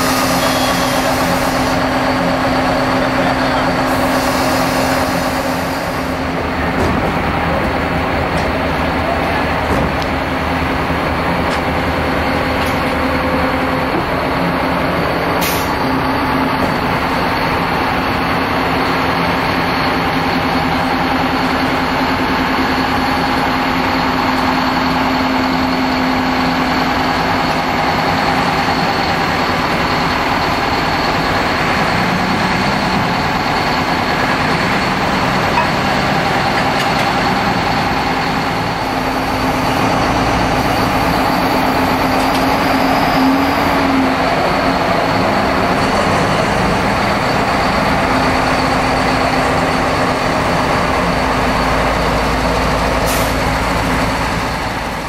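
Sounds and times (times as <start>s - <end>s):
diesel locomotive engine running: 0.0s - 55.0s.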